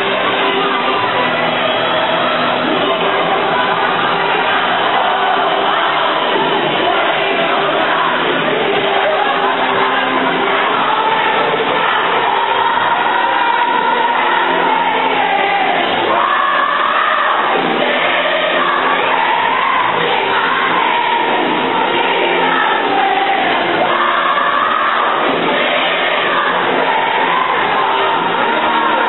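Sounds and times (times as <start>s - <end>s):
crowd singing and shouting: 0.0s - 29.0s
loud music: 0.0s - 29.0s.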